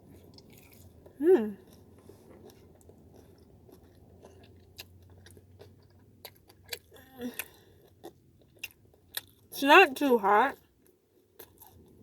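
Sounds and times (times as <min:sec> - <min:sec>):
person chewing: 0:00.0 - 0:09.5, 0:10.7 - 0:12.0.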